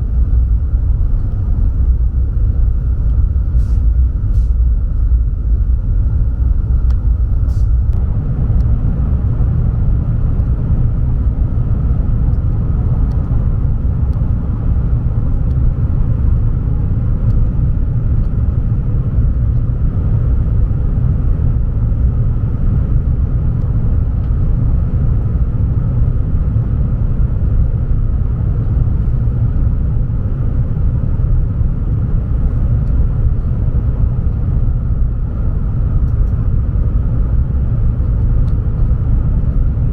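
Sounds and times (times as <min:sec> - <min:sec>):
faint steady hum: 0:00.0 - 0:39.9
train rumbling inside carriage: 0:00.0 - 0:39.9.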